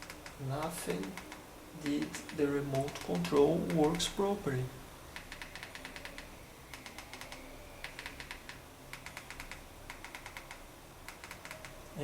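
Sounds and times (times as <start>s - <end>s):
remote control buttons clicking: 0.0s - 4.2s, 5.2s - 11.8s.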